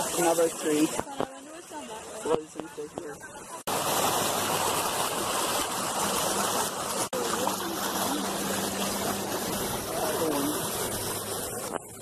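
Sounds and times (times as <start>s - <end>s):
water rushing along boat hull: 0.0s - 12.0s
boat motor hum: 1.8s - 12.0s.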